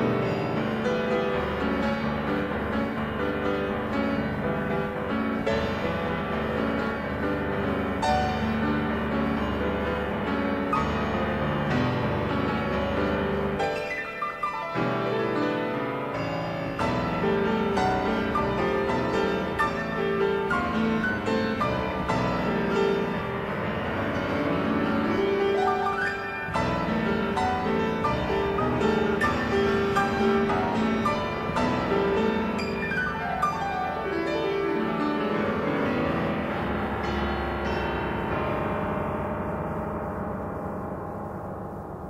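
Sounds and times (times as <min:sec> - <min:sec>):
solo piano playing: 0:00.0 - 0:42.0.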